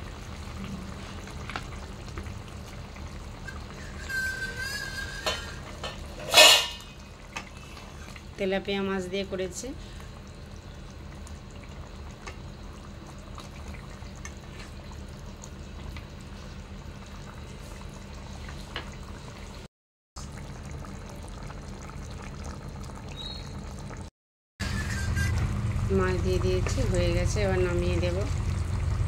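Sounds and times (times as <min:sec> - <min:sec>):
curry bubbling in a pan: 0:00.0 - 0:24.1, 0:26.2 - 0:29.0.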